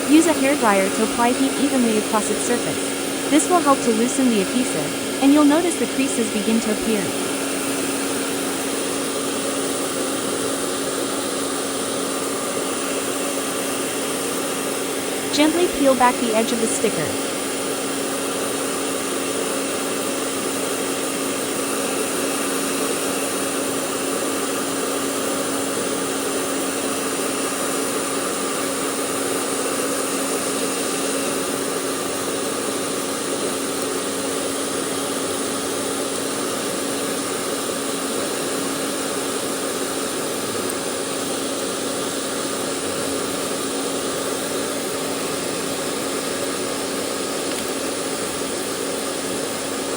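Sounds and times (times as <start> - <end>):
hairdryer blowing: 0.8 - 49.9.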